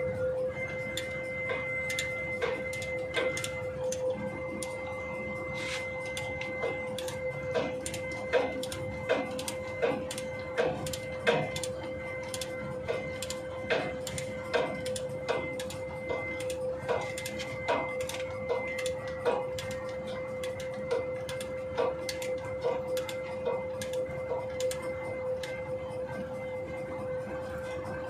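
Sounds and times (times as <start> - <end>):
steady high hum: 0.0 - 28.0.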